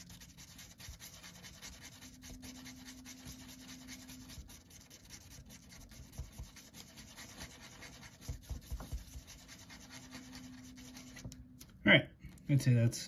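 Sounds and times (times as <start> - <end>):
stick scraping on paper: 0.0 - 11.4.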